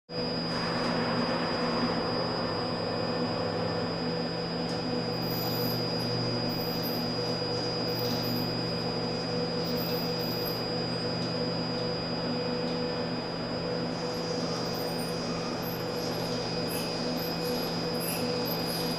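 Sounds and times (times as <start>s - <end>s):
electrical hum: 0.1s - 18.9s
thin high servo whine: 0.2s - 18.9s.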